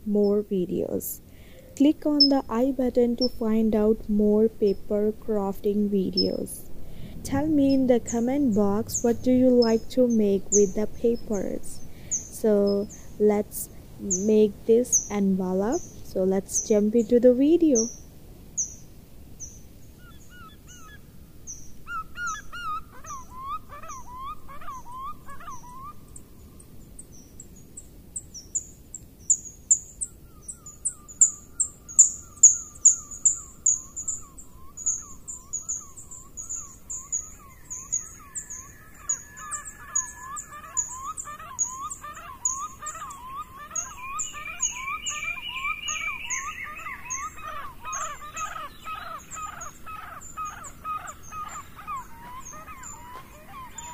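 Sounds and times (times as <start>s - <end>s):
lower bird call: 0.0s - 53.9s.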